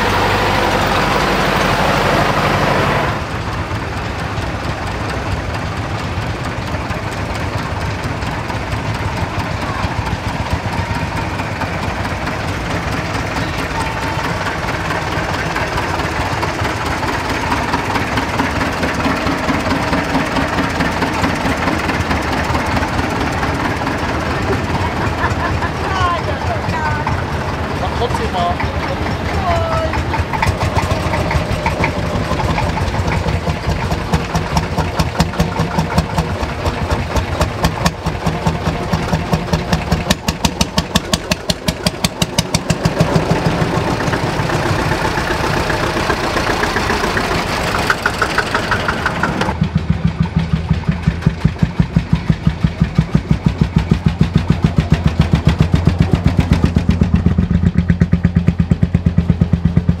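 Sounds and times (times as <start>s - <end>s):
slow engine beating: 0.0s - 60.0s
tractor engines driving past: 0.0s - 60.0s.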